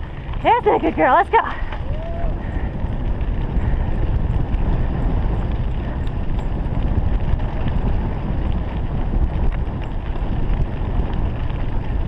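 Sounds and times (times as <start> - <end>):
rumbling along dirt trail: 0.0 - 12.0
wind buffeting microphone: 0.0 - 12.0.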